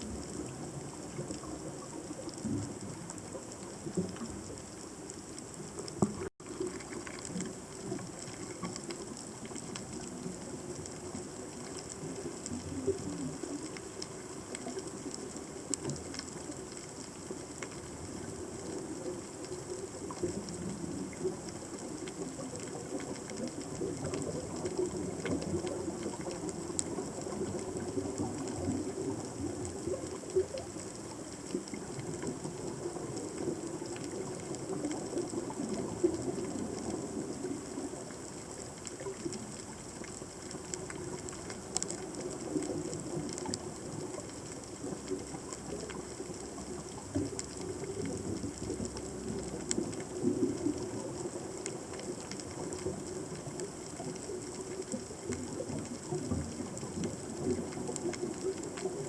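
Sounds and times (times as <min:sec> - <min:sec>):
small clicks and crackles: 0:00.0 - 0:59.0
underwater rush of water: 0:00.0 - 0:59.0.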